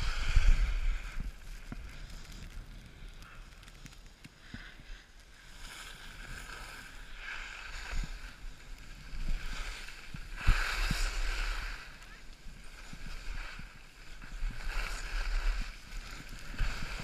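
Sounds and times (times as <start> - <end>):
skis scraping over snow: 0.0 - 17.0
wind rumble on microphone: 0.0 - 17.0.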